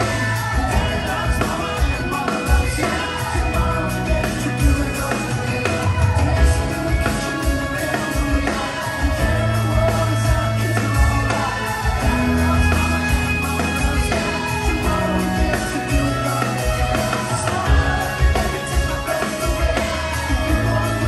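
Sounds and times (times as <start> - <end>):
live rock band: 0.0 - 21.0.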